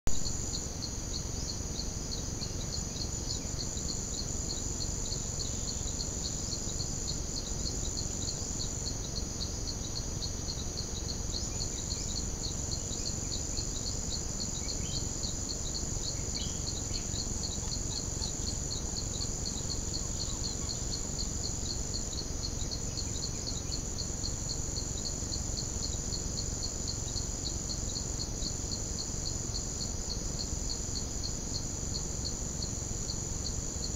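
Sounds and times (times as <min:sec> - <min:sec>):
insect high-pitched trill: 0:00.1 - 0:33.9
insect pulsing rhythmically: 0:00.1 - 0:33.9
low background hiss: 0:00.1 - 0:33.9.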